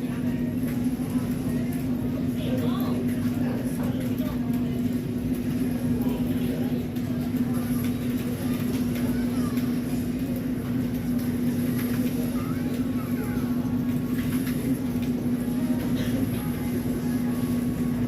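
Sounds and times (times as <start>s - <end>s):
mechanical hum and rumble: 0.0s - 18.0s.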